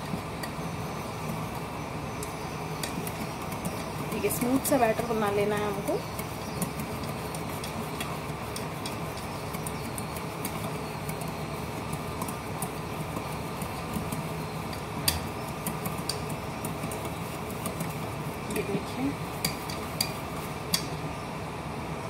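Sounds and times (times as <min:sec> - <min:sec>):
steady background hum: 0:00.0 - 0:22.0
utensil ticking against steel bowl: 0:02.2 - 0:18.6, 0:19.2 - 0:20.9.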